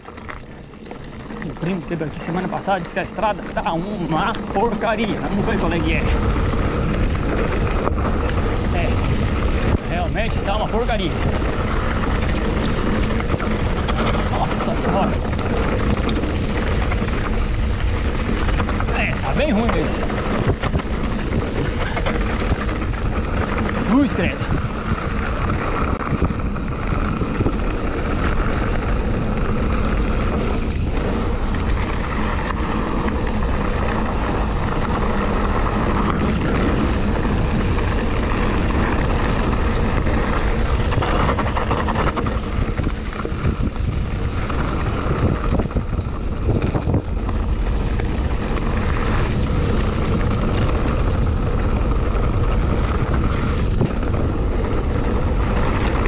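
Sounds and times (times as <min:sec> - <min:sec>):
bike knocking and rattling: 0:00.0 - 0:56.0
bike tyre noise on dirt: 0:00.0 - 0:56.0
wind buffeting microphone: 0:00.0 - 0:56.0.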